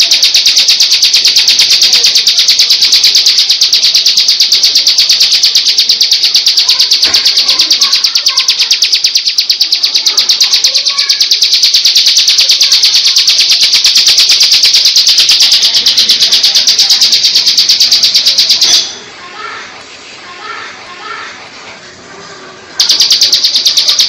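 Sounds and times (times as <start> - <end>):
bird singing a rapid trill: 0.0 - 18.9, 22.8 - 24.0.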